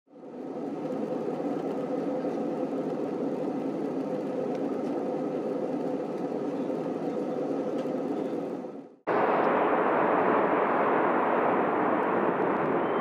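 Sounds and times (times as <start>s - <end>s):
airliner cabin drone: 0.1s - 13.0s.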